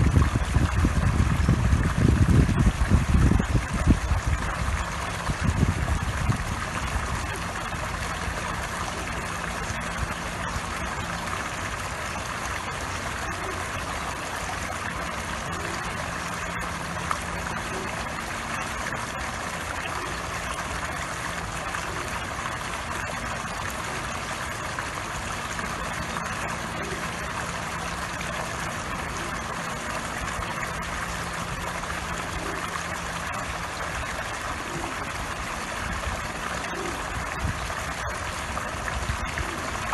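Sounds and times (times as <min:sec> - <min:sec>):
fountain jet splashing onto water: 0:00.0 - 0:39.9
low steady hum: 0:00.0 - 0:39.9.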